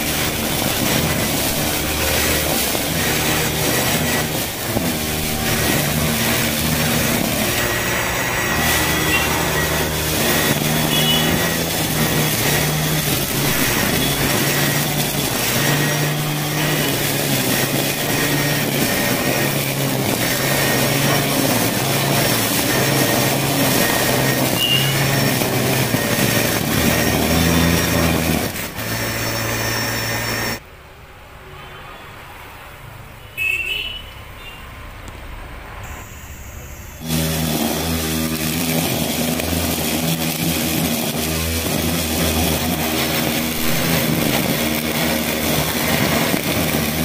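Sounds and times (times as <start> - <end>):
electric grass cutter motor running: 0.0 - 30.6, 37.0 - 47.0.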